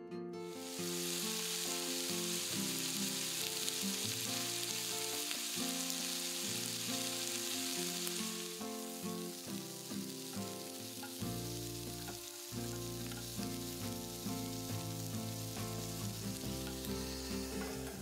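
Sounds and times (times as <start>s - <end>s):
light guitar music: 0.0s - 18.0s
skewers sizzling in frying pan: 0.5s - 18.0s.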